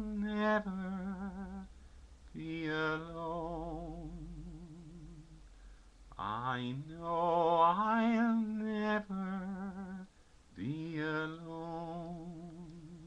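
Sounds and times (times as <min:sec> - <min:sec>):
man singing unaccompanied: 0:00.0 - 0:01.7, 0:02.3 - 0:05.5, 0:06.1 - 0:13.0.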